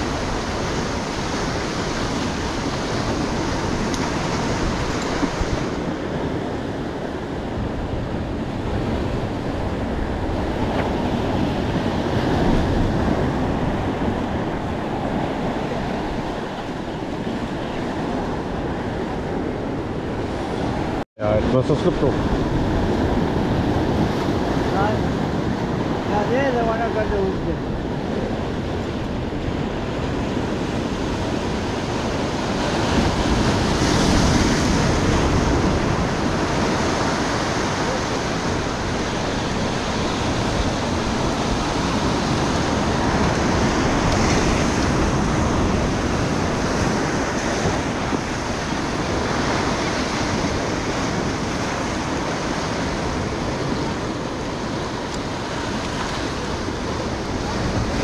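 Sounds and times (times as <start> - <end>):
ocean surf breaking on rocks: 0.0 - 58.0.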